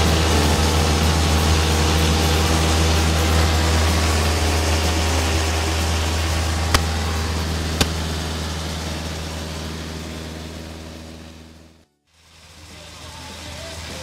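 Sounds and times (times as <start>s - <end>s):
airplane engine droning: 0.0s - 14.0s.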